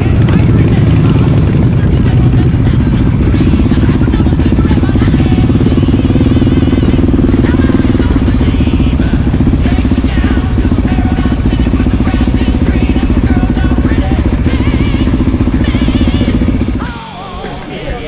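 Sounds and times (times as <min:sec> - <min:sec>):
faint music: 0:00.0 - 0:18.0
motorcycle engine idling: 0:00.0 - 0:18.0.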